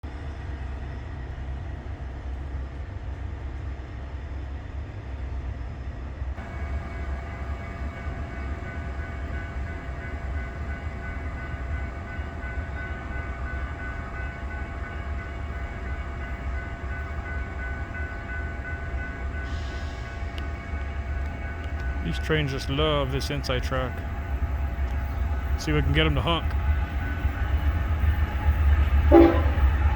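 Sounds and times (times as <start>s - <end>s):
freight train rumbling by: 0.0s - 29.9s.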